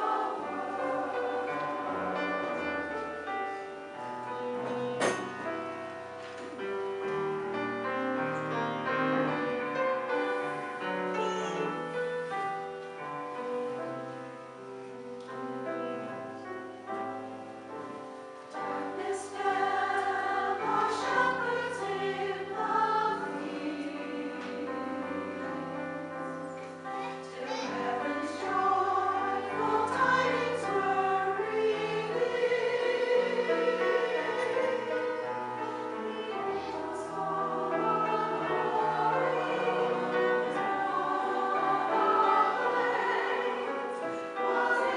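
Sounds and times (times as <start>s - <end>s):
choir singing in harmony: 0.0s - 44.9s.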